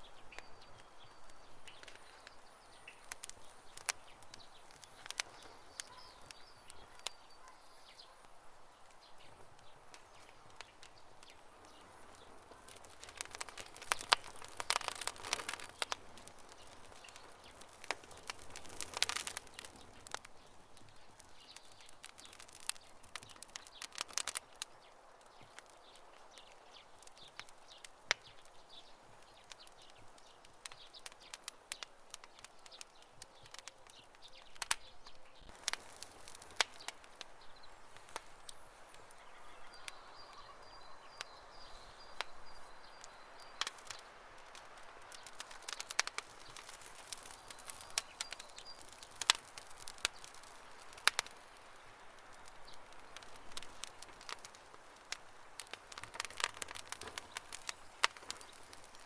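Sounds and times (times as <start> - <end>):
campfire crackling: 0.0 - 59.0.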